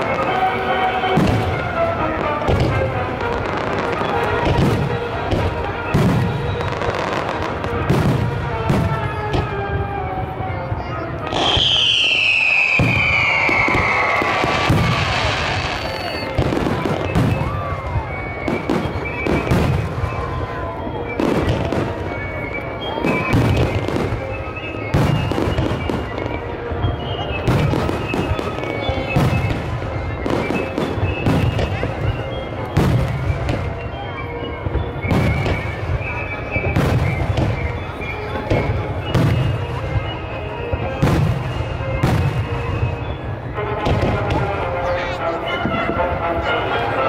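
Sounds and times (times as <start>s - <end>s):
crowd voices: 0.0s - 47.0s
firework high whistle: 0.0s - 47.0s
fireworks bangs and crackling: 0.0s - 47.0s
music: 0.0s - 47.0s.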